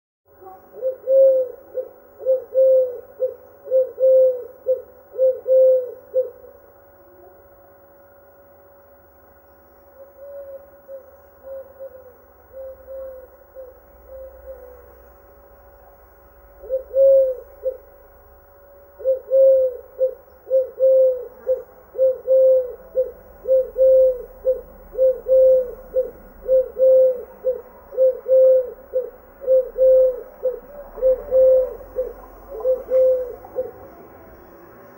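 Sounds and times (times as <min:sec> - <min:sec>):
dove cooing: 0:00.3 - 0:07.5, 0:09.9 - 0:34.9.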